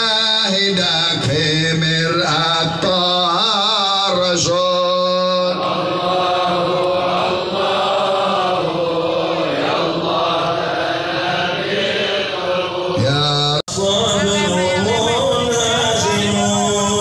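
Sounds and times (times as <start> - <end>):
devotional chanting: 0.0 - 17.0.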